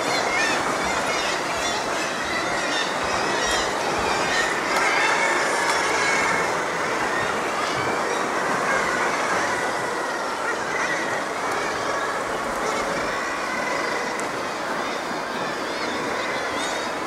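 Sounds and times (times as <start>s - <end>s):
sea water surging around rocks: 0.0s - 17.0s.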